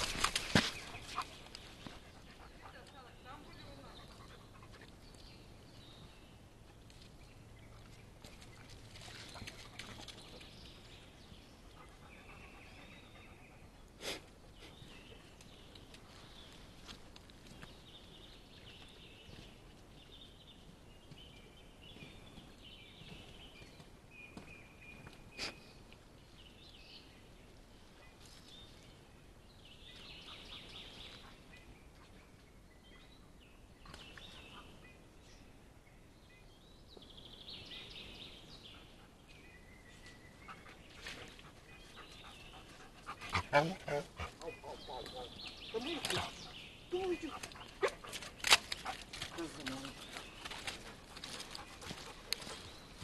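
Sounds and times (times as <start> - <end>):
faint birdsong chirping: 0.0 - 53.0
quiet forest background: 0.0 - 53.0.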